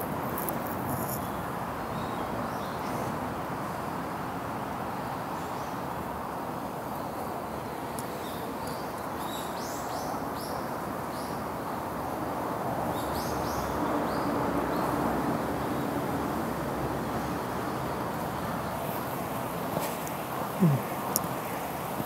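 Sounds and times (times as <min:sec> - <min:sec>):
river water flowing: 0:04.0 - 0:22.0.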